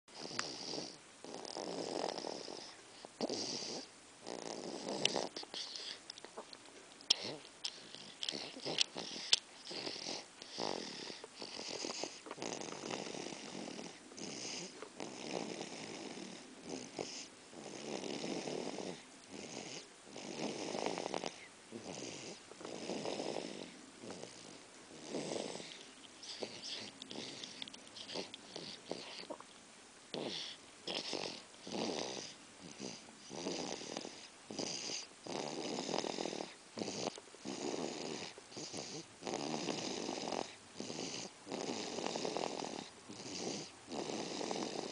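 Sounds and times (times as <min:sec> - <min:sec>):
person snoring: 0:00.2 - 0:06.0, 0:07.1 - 0:29.4, 0:30.1 - 0:44.9.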